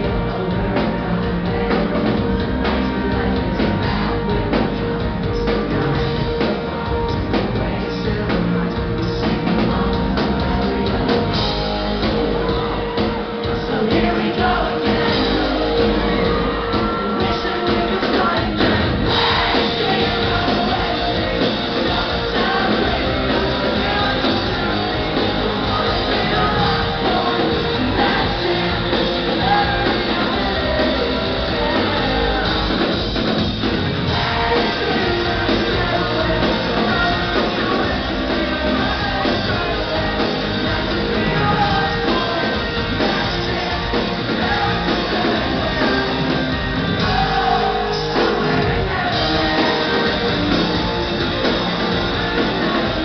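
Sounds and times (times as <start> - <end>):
person singing: 0.0 - 33.0, 34.0 - 53.0
live rock band playing: 0.0 - 53.0.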